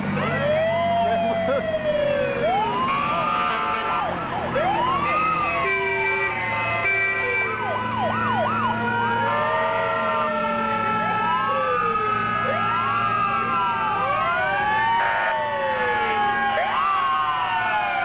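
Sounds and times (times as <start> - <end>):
fire truck sirens wailing: 0.0 - 18.0
siren yelps: 0.1 - 18.0.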